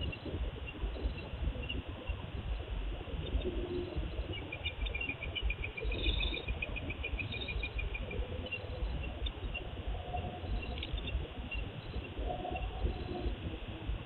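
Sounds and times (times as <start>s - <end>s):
insect chirping: 0.0s - 14.0s
low wind rumble: 0.0s - 14.0s.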